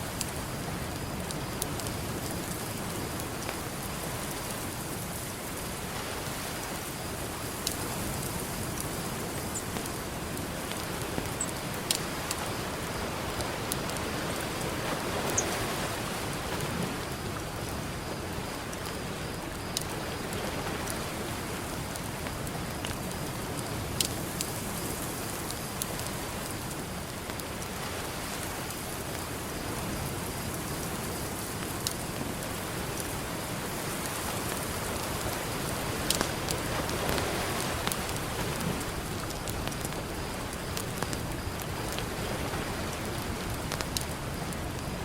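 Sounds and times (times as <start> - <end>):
ocean surf: 0.0 - 22.6, 23.2 - 45.0
campfire crackling: 0.0 - 45.0.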